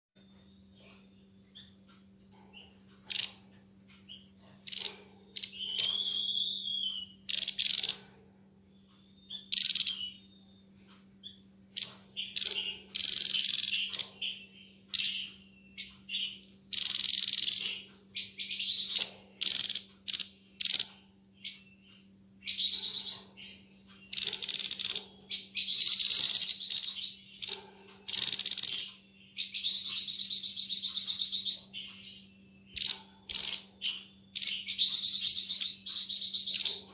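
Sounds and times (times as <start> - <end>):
bird singing rattling notes: 0.2 - 36.9
low electrical hum: 0.2 - 36.9.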